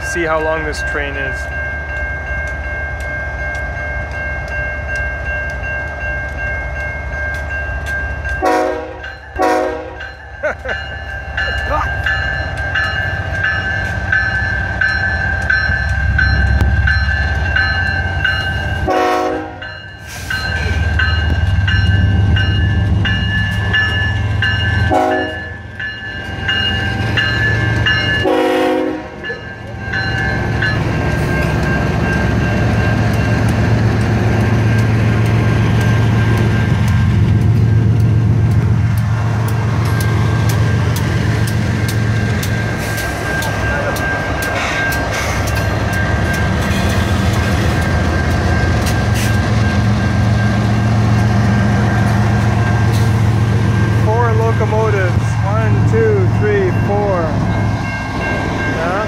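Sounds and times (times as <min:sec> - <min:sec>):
diesel locomotive engine rumble: 0:00.0 - 0:59.0
level crossing warning bell: 0:00.0 - 0:59.0.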